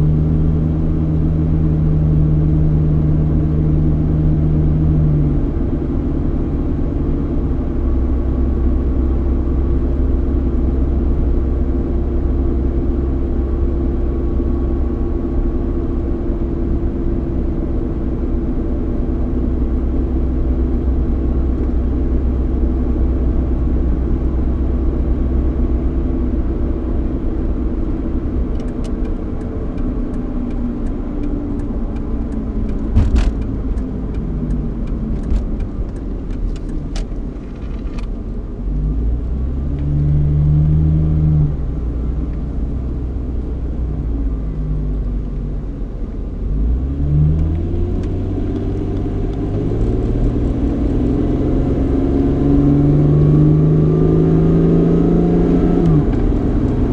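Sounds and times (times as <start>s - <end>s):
car engine hum: 0.0s - 56.9s
road rumble: 0.0s - 56.9s.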